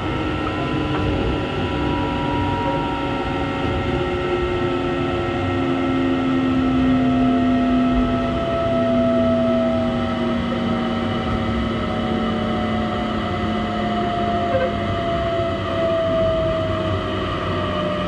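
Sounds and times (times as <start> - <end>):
train motor whine: 0.0 - 18.0
wheels rumbling on rail: 0.0 - 18.0.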